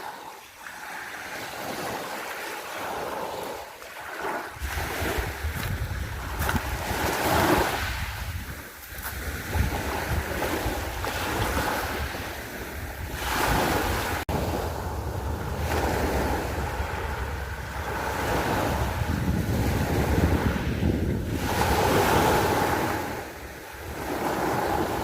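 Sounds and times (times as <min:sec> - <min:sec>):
sea waves washing ashore: 0:00.0 - 0:25.0
wind on microphone: 0:04.2 - 0:25.0.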